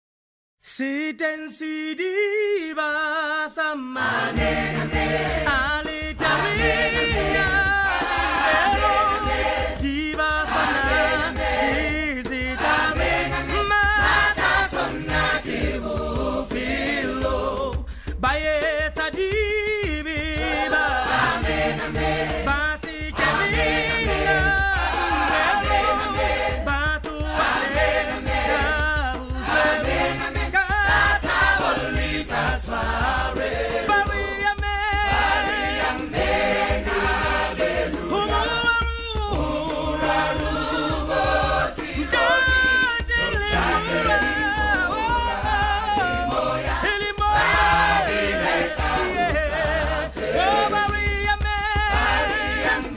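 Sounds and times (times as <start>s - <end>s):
choir singing a cappella: 3.8s - 17.9s, 20.4s - 52.9s.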